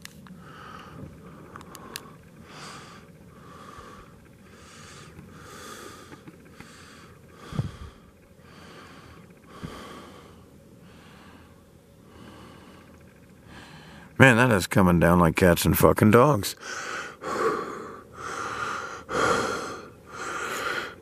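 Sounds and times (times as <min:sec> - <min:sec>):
person breathing: 0:00.4 - 0:14.2, 0:16.6 - 0:21.0.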